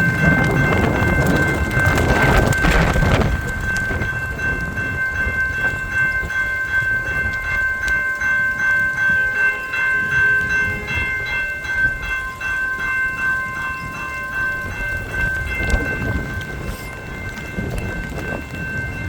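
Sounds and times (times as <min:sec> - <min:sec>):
railway crossing bell ringing: 0:00.0 - 0:19.0
wind buffeting microphone: 0:00.0 - 0:19.0.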